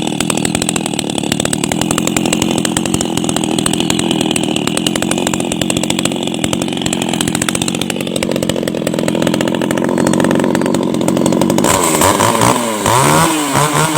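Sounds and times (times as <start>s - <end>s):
chainsaw running: 0.0s - 13.9s.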